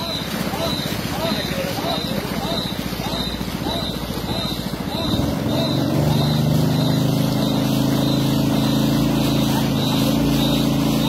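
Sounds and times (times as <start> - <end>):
motorboat engine running: 0.0 - 11.0
water rushing past: 0.0 - 11.0.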